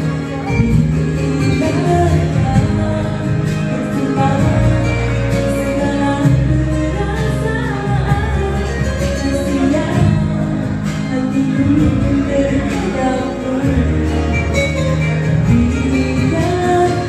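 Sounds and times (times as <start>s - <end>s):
instrumental accompaniment: 0.0s - 17.0s
woman singing through speakers: 0.0s - 17.0s.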